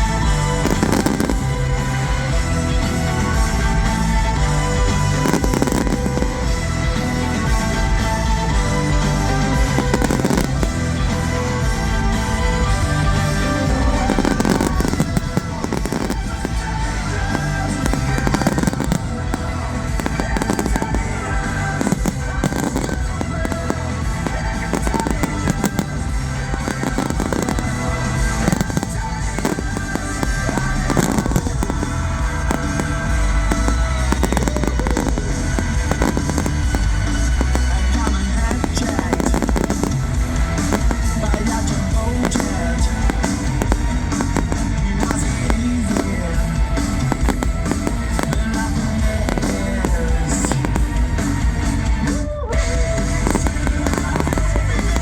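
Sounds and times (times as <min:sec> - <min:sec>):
fireworks bursting and crackling: 0:00.0 - 0:55.0
loud music: 0:00.0 - 0:55.0.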